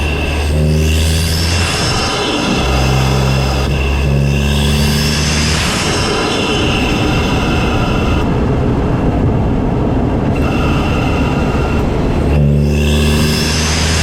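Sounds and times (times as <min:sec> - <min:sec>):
engine intake rush: 0:00.0 - 0:14.0
steady engine tone: 0:00.0 - 0:14.0.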